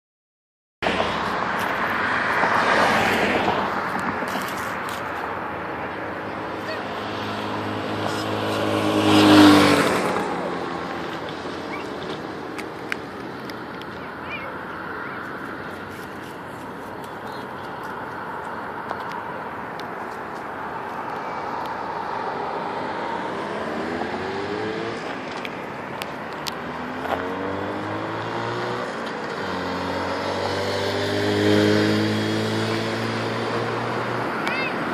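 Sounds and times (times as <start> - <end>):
motorcycle passing by: 0.9 - 19.4, 20.5 - 25.8, 26.5 - 34.9
road traffic hiss: 1.1 - 34.9.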